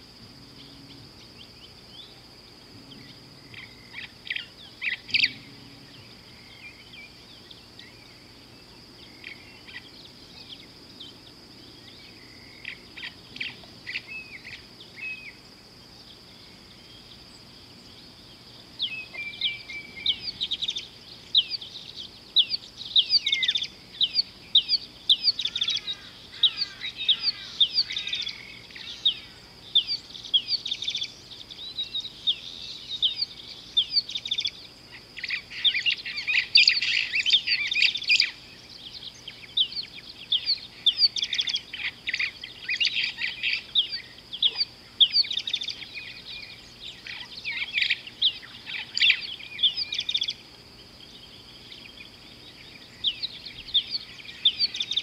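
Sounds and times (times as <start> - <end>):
birds chirping: 0.0 - 55.0
steady high whine: 0.0 - 55.0.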